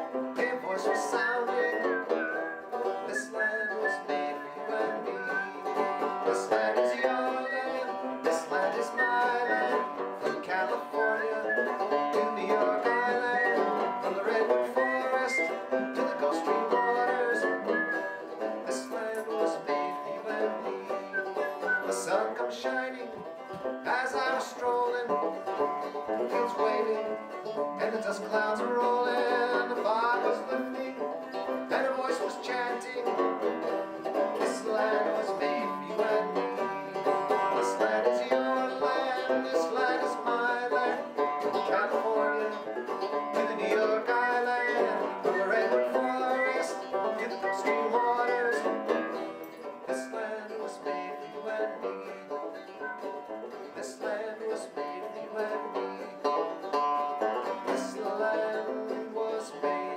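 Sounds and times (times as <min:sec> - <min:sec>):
banjo music: 0:00.0 - 0:59.9.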